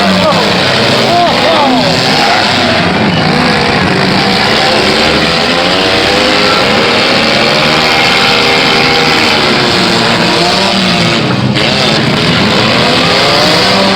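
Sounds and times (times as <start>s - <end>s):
car engines revving: 0.0s - 13.9s.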